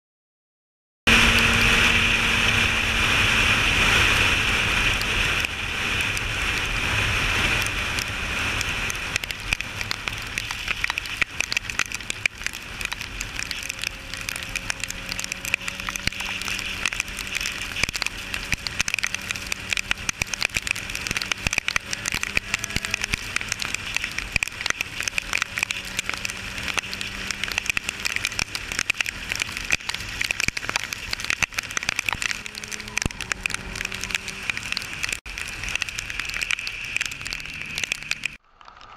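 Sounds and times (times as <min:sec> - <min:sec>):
motorcycle engine: 0:01.1 - 0:38.4
rain crackling on helmet: 0:01.1 - 0:38.9
rushing wind: 0:01.1 - 0:38.9.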